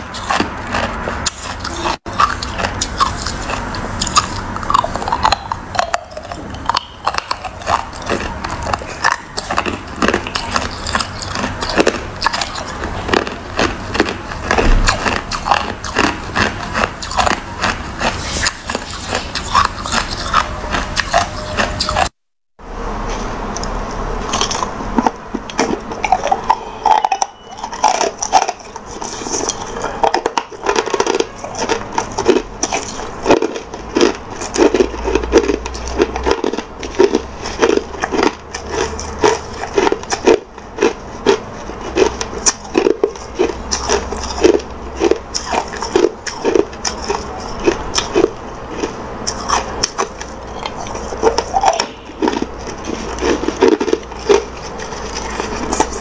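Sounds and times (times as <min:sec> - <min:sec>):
crushed ice being chewed: 0:00.0 - 0:22.2, 0:23.0 - 0:56.0.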